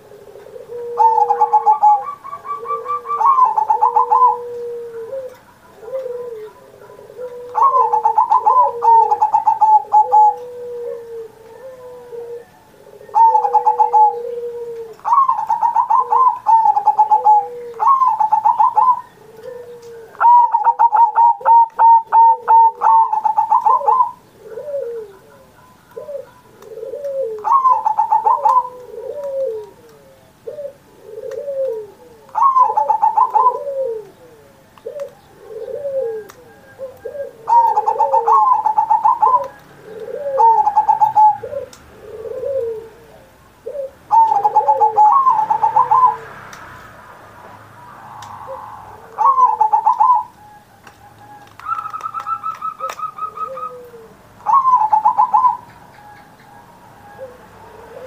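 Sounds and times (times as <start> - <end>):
lower dove coo notes: 0.0 - 46.5, 47.9 - 58.0
dove rolling coo song: 0.0 - 58.0.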